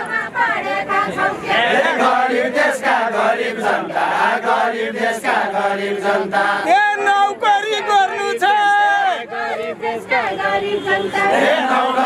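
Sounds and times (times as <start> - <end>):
group singing folk song: 0.0 - 12.0.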